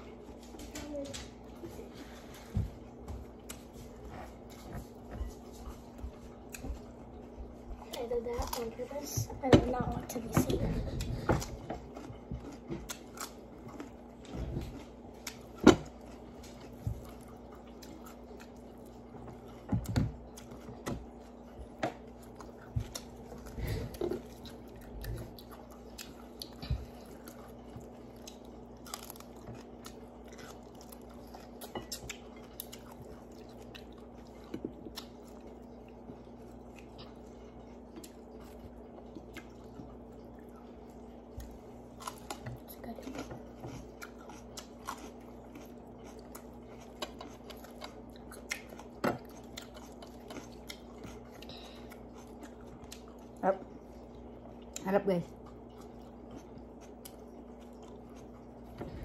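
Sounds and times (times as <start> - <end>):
steady low hum: 0.0 - 59.0
person chewing crunchy cucumber: 10.9 - 59.0.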